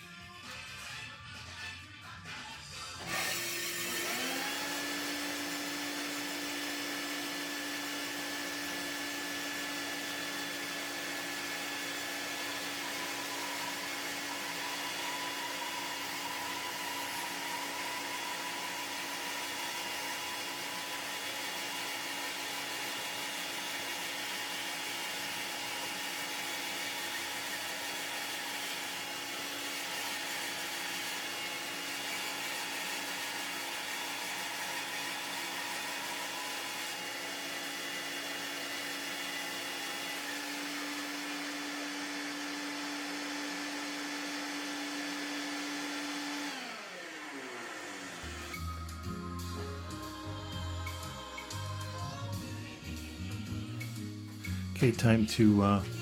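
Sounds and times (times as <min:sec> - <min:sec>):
electric motor whining: 0:03.0 - 0:51.8.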